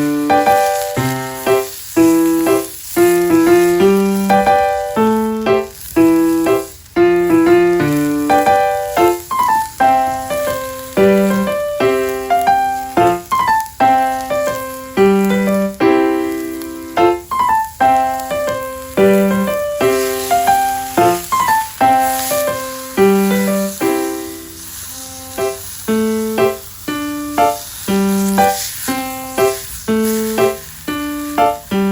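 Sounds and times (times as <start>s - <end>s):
piano-like keyboard tune: 0.0s - 31.9s.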